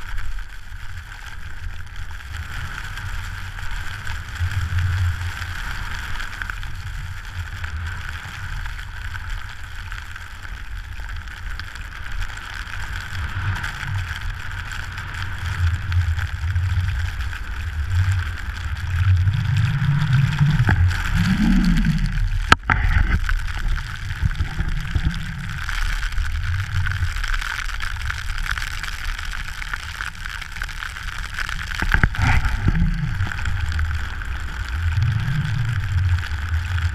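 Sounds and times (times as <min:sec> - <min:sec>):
skis sliding on snow: 0:00.0 - 0:36.9
wind rumbling on microphone: 0:00.0 - 0:36.9.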